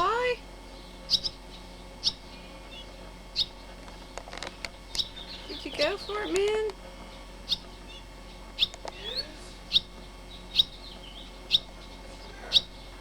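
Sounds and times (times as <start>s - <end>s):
bird rising call: 0.0s - 3.8s, 4.5s - 13.0s
songbird chirping: 0.0s - 13.0s.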